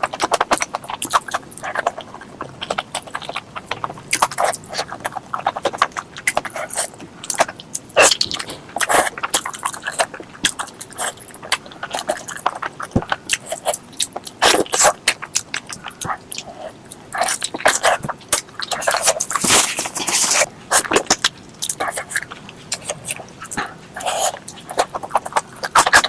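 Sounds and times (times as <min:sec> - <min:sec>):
chewing with wet clicks: 0:00.0 - 0:19.6, 0:20.5 - 0:26.0.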